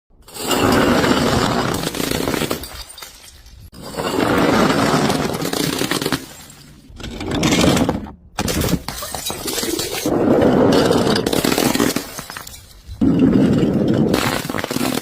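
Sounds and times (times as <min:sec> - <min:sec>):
glass bottles crushing and shattering: 0:00.3 - 0:15.0.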